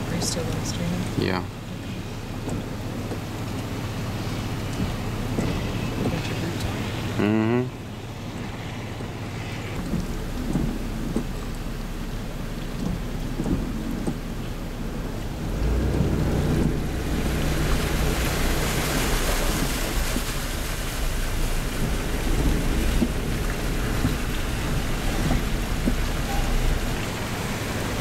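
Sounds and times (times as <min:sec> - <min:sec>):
hurricane wind and rain: 0:00.0 - 0:28.0.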